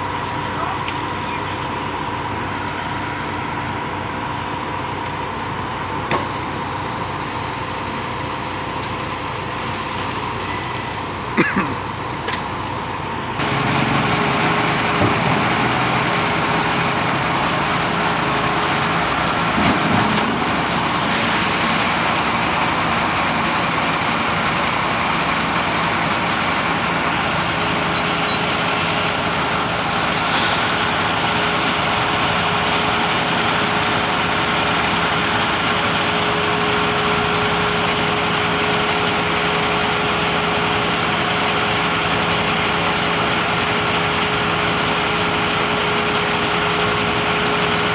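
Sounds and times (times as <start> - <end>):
concrete pump machinery running: 0.0 - 47.9.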